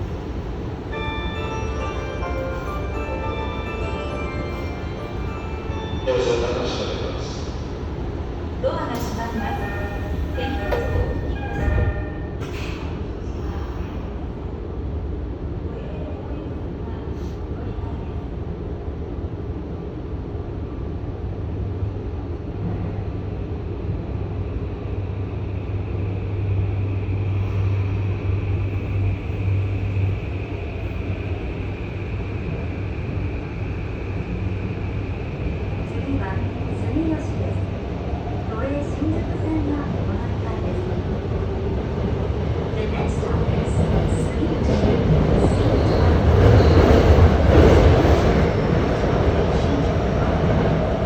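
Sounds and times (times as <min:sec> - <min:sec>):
subway train running: 0:00.0 - 0:51.0.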